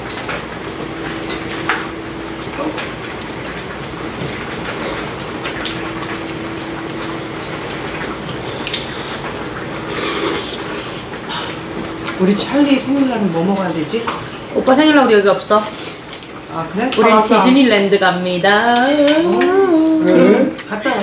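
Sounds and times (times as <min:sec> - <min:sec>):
broth bubbling: 0:00.0 - 0:18.4.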